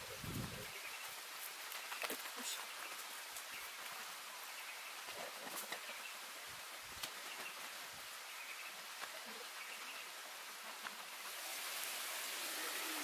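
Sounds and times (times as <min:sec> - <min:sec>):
faint high hiss: 0:00.0 - 0:13.0.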